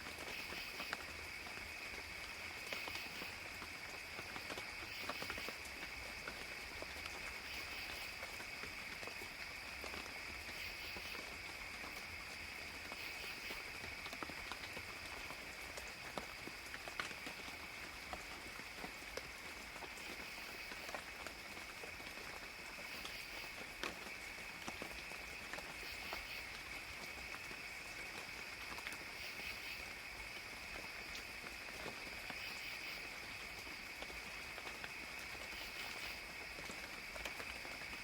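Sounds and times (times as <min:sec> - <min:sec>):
light rain with drops: 0:00.0 - 0:38.0
high-pitched insect chorus: 0:00.2 - 0:18.0, 0:19.8 - 0:38.0.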